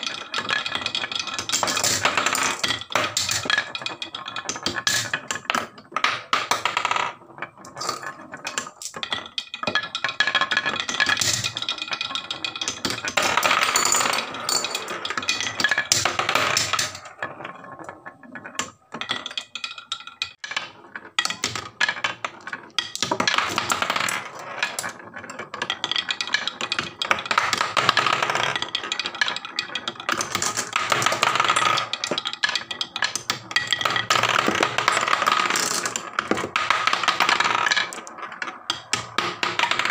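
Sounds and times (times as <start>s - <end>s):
marbles clattering down wooden run: 0.0s - 39.9s.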